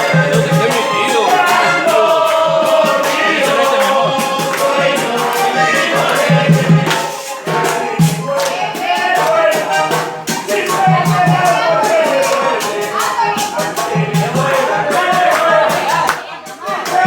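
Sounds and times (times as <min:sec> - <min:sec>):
person singing: 0:00.0 - 0:17.0
shaker rhythm: 0:00.0 - 0:17.0.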